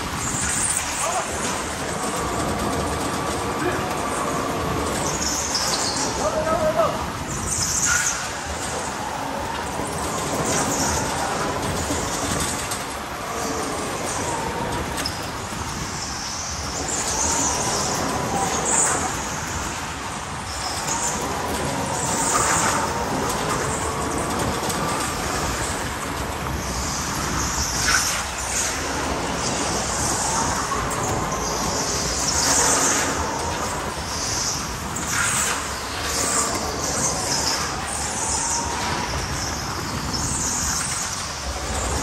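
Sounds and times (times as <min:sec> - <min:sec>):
wind and tyre noise: 0:00.0 - 0:42.0.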